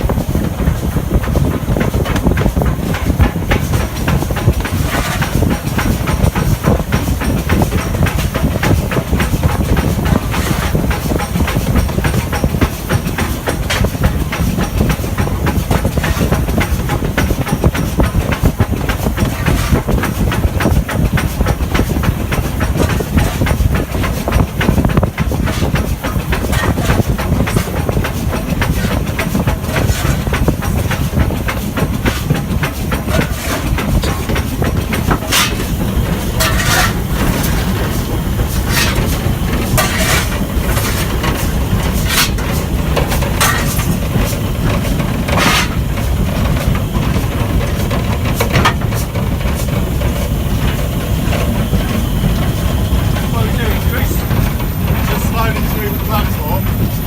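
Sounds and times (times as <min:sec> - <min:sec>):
steam locomotive chugging: 0:00.0 - 0:57.0.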